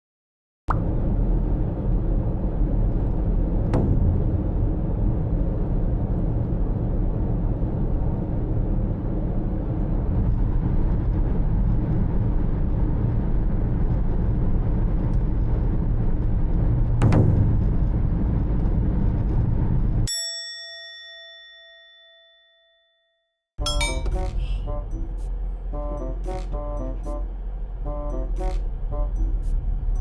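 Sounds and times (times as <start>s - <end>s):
vehicle rumbling in motion: 0.7s - 20.1s, 23.6s - 30.0s.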